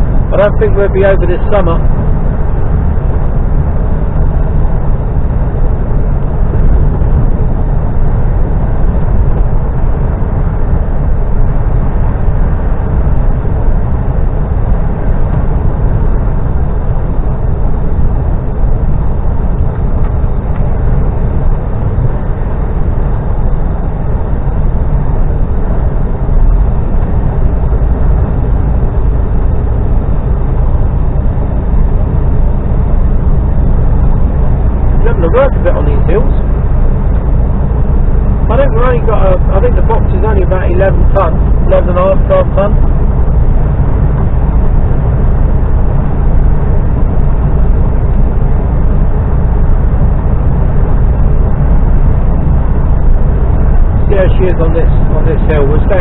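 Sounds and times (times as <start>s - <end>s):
vehicle cabin engine and road noise: 0.0s - 56.0s.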